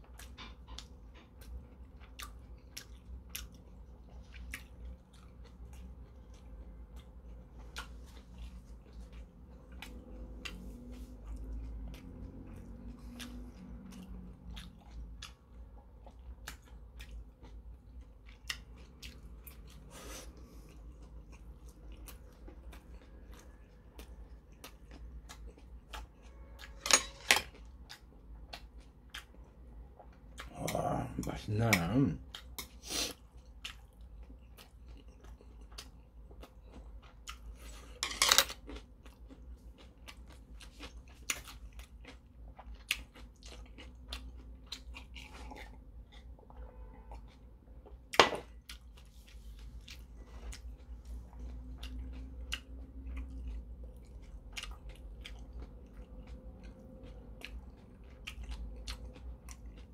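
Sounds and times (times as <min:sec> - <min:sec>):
person chewing dumplings: 0:00.0 - 0:59.9.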